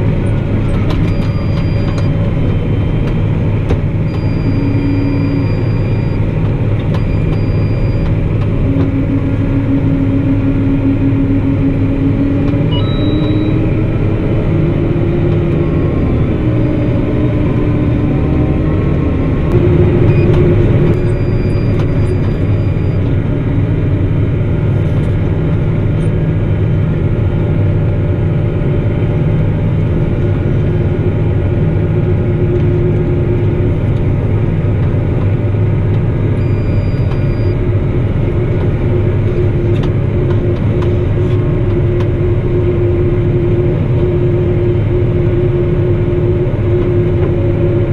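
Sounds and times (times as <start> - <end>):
tractor diesel engine drone: 0.0 - 47.9.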